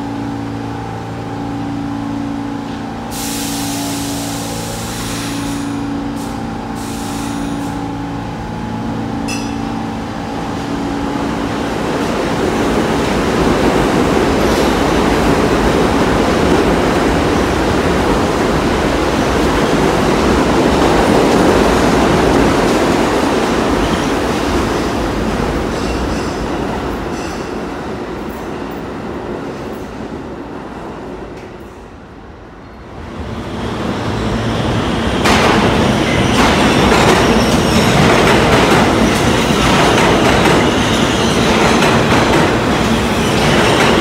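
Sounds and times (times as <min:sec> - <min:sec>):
subway train wheels rumbling: 0:00.0 - 0:44.0.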